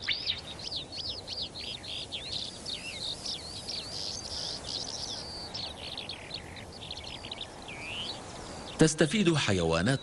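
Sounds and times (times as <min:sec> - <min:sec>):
faint outdoor hiss: 0:00.0 - 0:10.0
songbird singing: 0:00.0 - 0:10.0.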